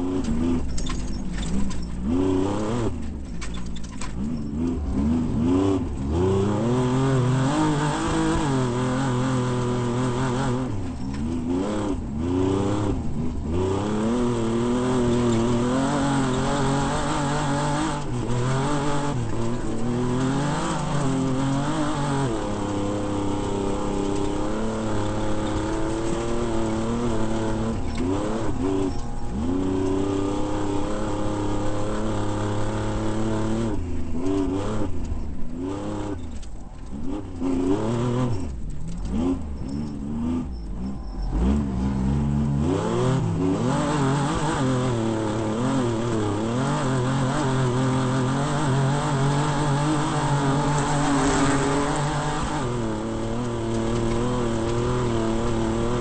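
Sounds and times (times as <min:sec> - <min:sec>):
race vehicle engine revving: 0:00.0 - 0:56.0.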